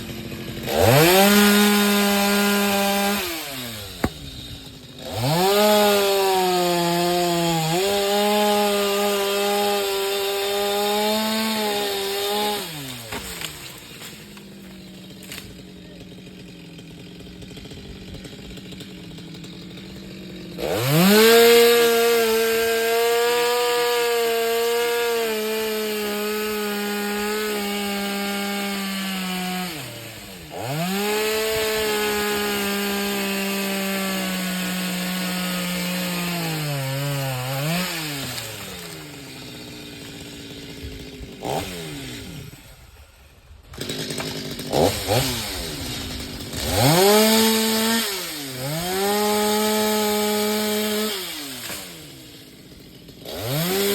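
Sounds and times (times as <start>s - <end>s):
chainsaw revving while cutting: 0.0s - 53.9s.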